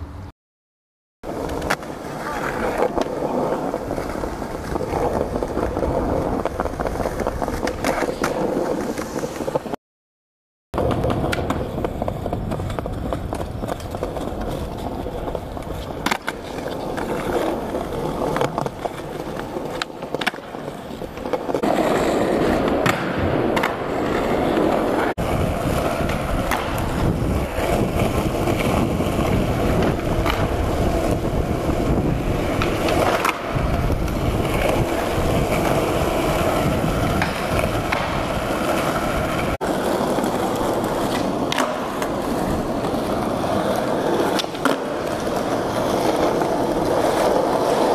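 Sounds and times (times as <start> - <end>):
skateboard wheels rolling on concrete: 1.2 - 9.8, 10.8 - 47.9
skateboard clacking on ground: 1.3 - 9.8, 10.8 - 47.9.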